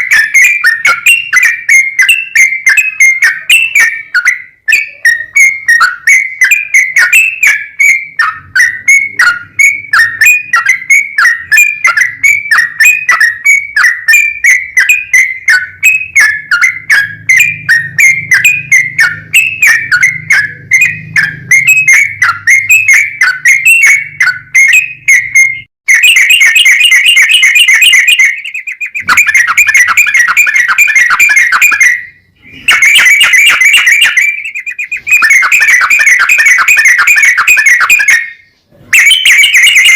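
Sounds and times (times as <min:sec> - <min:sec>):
bird whistling: 0:00.0 - 0:39.9.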